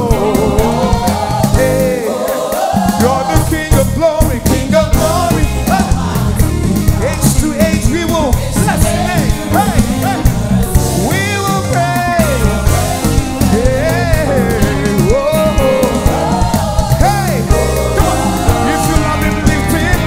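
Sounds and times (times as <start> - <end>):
backing singers: 0.0 - 20.0
band playing gospel music: 0.0 - 20.0.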